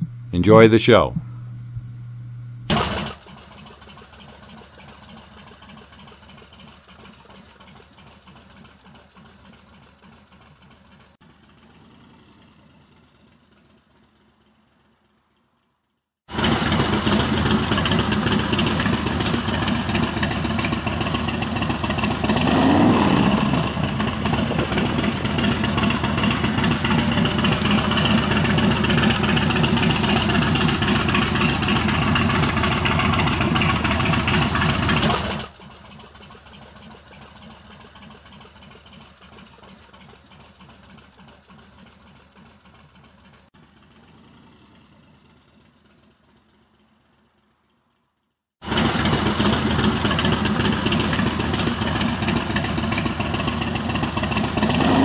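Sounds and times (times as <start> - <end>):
motorcycle engine idling: 2.7 - 55.0.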